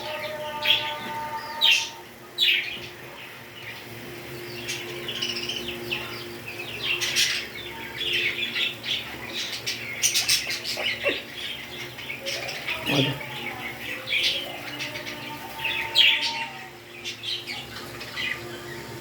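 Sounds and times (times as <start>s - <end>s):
parrots chirping and squawking: 0.0s - 19.0s.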